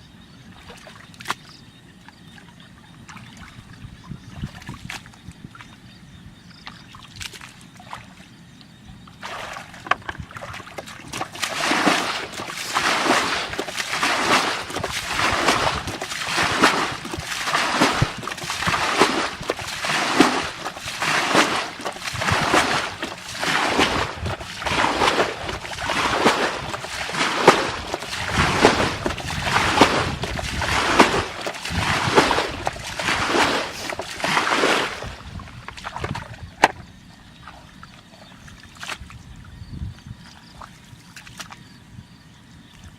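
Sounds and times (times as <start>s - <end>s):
water splashing and sloshing: 0.4s - 41.8s.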